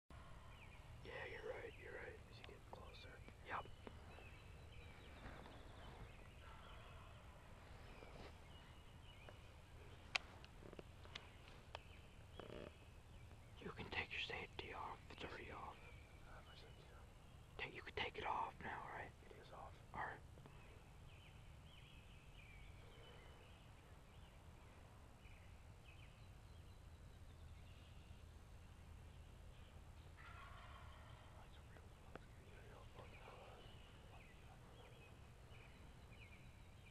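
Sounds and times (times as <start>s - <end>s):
songbirds chirping: 0.1s - 36.9s.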